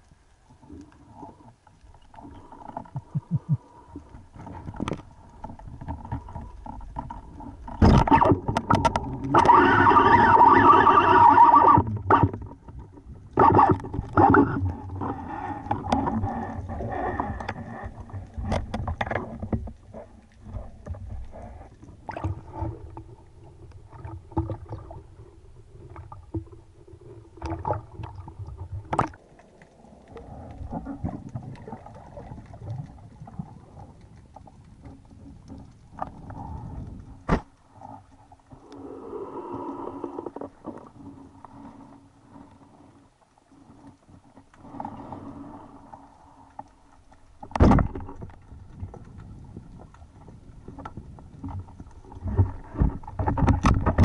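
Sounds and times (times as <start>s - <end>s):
underwater rushing: 0.0s - 54.0s.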